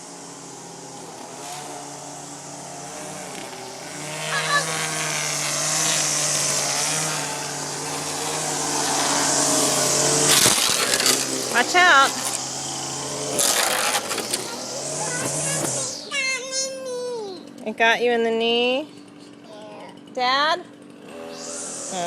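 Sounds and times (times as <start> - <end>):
string trimmer motor running: 0.0 - 16.1, 17.4 - 22.0.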